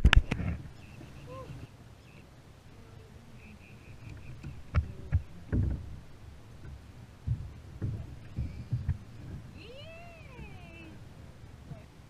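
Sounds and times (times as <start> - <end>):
wind rumble: 0.0 - 12.0.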